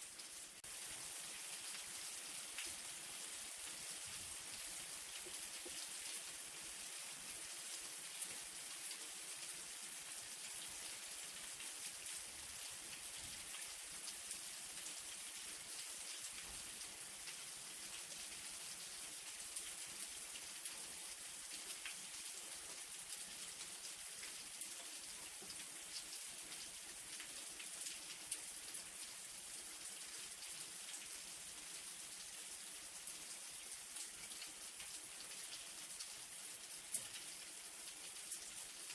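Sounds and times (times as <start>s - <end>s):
light rain falling: 0.0s - 38.9s
small raindrop ticks: 1.5s - 2.9s, 3.8s - 6.6s, 7.3s - 31.2s, 33.0s - 38.9s.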